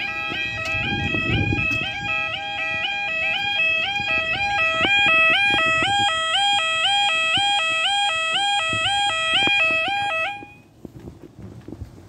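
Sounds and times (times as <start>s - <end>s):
electronic two-tone warble alarm: 0.0s - 10.7s.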